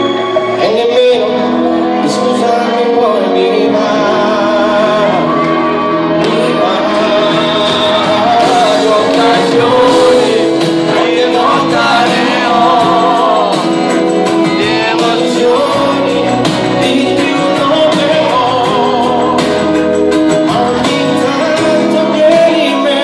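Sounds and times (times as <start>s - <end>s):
keyboards and band playing: 0.0s - 23.0s
man singing pop song: 0.0s - 23.0s.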